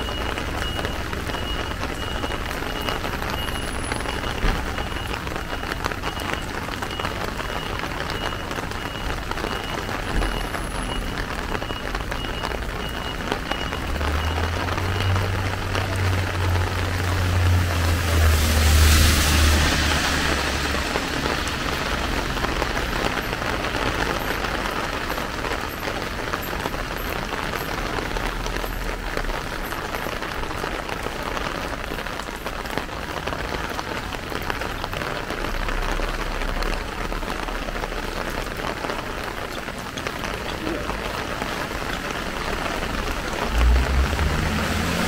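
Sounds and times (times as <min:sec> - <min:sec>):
rain on plastic umbrella: 0:00.0 - 0:45.0
rain on wet street: 0:00.0 - 0:45.0.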